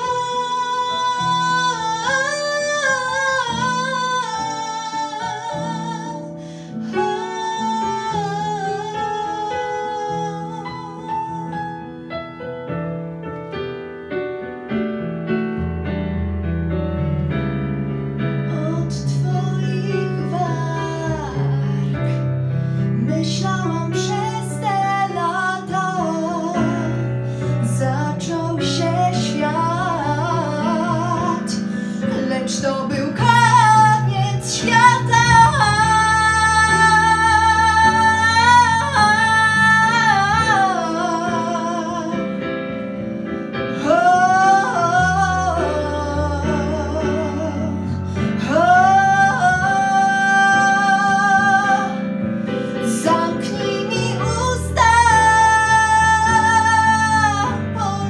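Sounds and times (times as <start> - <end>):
woman singing into a microphone: 0.0 - 11.8, 18.5 - 42.6, 43.6 - 58.0
instrumental backing track: 0.0 - 58.0.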